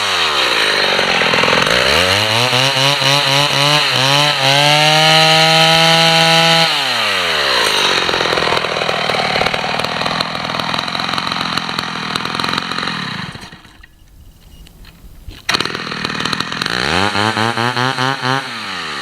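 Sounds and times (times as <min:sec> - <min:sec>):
chainsaw revving and idling: 0:00.0 - 0:19.0.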